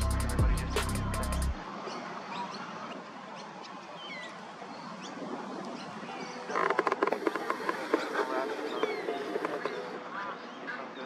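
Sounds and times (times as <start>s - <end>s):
coots calling: 0.0s - 11.0s.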